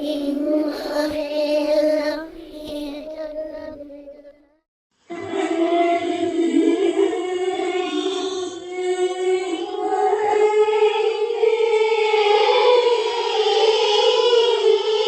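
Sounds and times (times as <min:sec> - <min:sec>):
girl singing eerie song: 0:00.0 - 0:04.5, 0:05.1 - 0:15.0.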